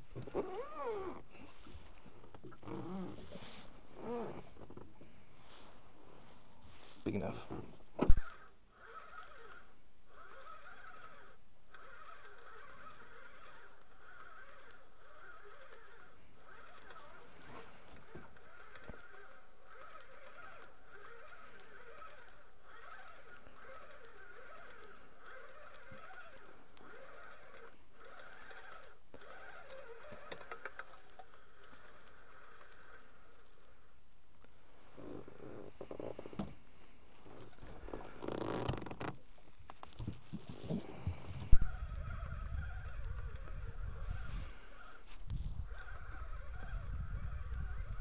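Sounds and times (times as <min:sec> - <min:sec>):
fishing reel whining: 0:00.0 - 0:07.3, 0:08.0 - 0:48.0.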